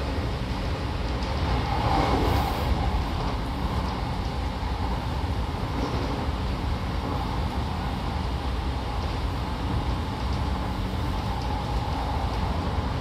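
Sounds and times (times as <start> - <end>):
train rumble from inside car: 0.0 - 13.0.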